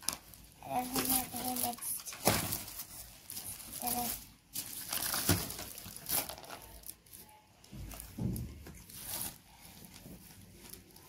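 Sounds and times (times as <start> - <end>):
plastic packaging crinkling: 0.0 - 8.1, 8.7 - 11.0.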